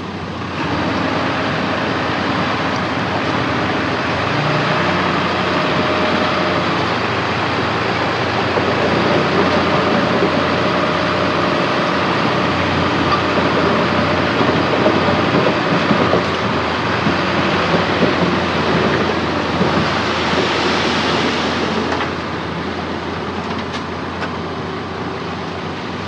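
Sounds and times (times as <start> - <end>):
diesel machinery engine drone: 0.0 - 26.0.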